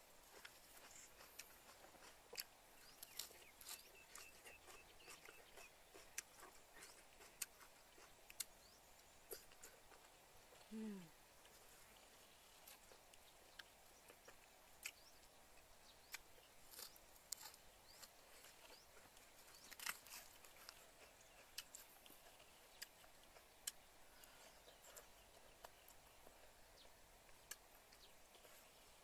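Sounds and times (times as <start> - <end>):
quiet outdoor background: 0.0 - 29.0
chewing with mouth smacks: 0.2 - 10.7, 11.4 - 29.0.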